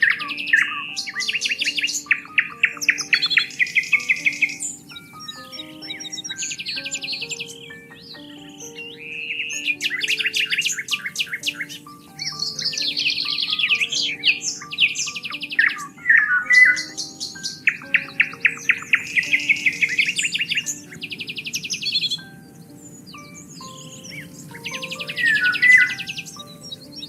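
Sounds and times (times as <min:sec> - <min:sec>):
birds singing in trills: 0:00.0 - 0:27.0
soft background music: 0:00.0 - 0:27.0.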